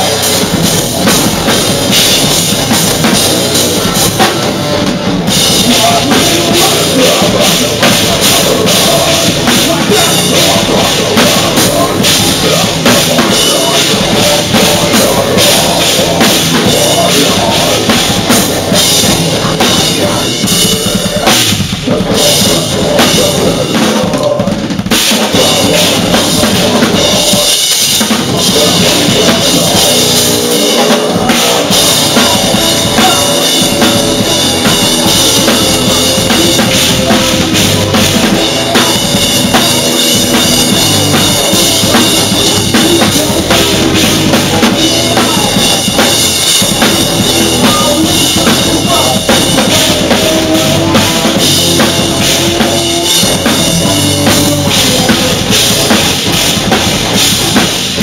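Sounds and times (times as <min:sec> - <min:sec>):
drum kit played hard: 0:00.0 - 0:58.0
rock band playing: 0:00.0 - 0:58.0.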